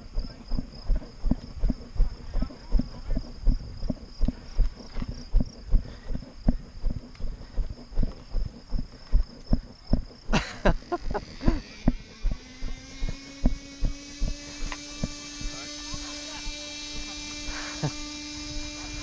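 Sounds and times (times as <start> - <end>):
high-pitched whine: 0.0 - 19.0
low hum: 0.0 - 19.0.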